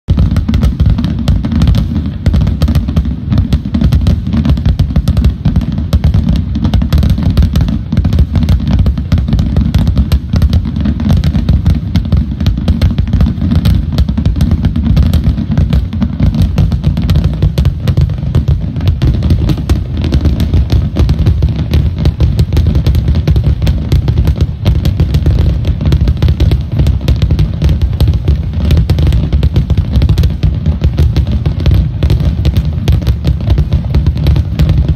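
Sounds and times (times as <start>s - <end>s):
firework crackling: 0.1s - 34.9s
firework shells booming: 0.1s - 34.9s.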